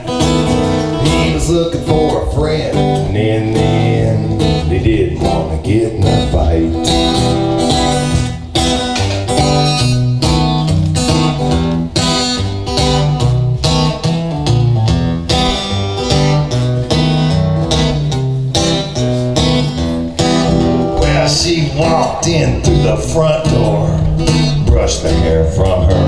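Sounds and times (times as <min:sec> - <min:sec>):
acoustic guitar strumming chords: 0:00.0 - 0:26.0
bass notes: 0:00.0 - 0:26.0.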